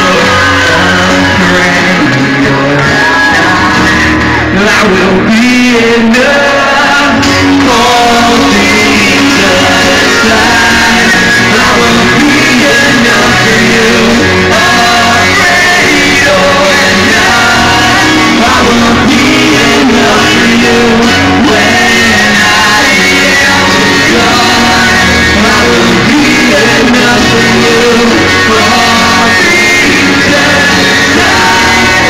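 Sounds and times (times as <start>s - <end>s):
drums: 0.0s - 32.0s
electric guitar: 0.0s - 32.0s
man singing into a microphone: 0.0s - 32.0s.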